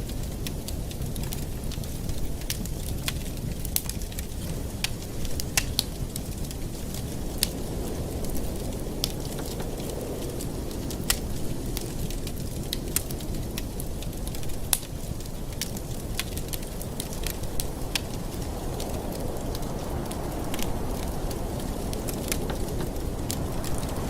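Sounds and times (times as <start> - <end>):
fire rushing: 0.0 - 24.0
wood fire crackling and popping: 0.0 - 24.0.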